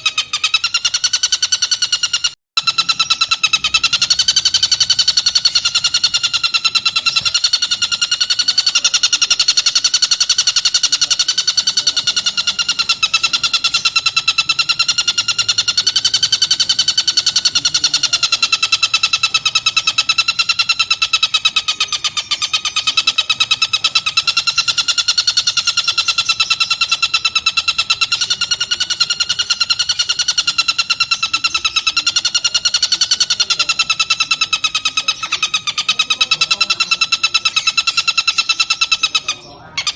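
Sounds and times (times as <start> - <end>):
bird rapid trilling chatter: 0.0 - 39.9.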